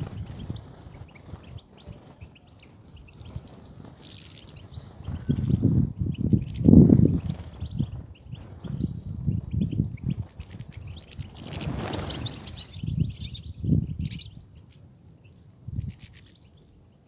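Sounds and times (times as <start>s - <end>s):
birds twittering in high chirps: 0.0s - 17.0s.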